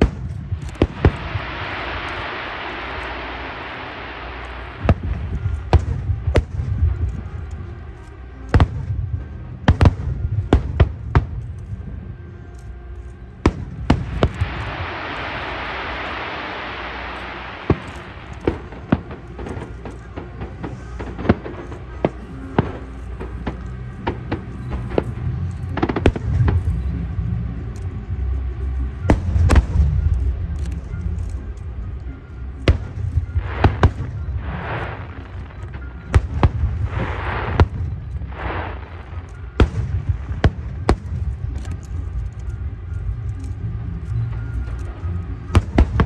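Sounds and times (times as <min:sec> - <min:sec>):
fireworks bangs and booms: 0:00.0 - 0:12.3, 0:13.4 - 0:46.0
fireworks crackling hisses: 0:00.0 - 0:46.0
low rumble: 0:00.0 - 0:46.0
music: 0:00.0 - 0:46.0.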